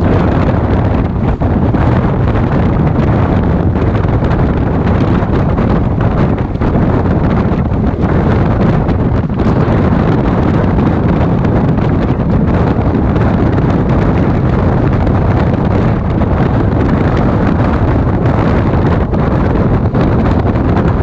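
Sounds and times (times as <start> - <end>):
train coach rumbling: 0.0 - 21.0
wind buffeting microphone: 0.0 - 21.0.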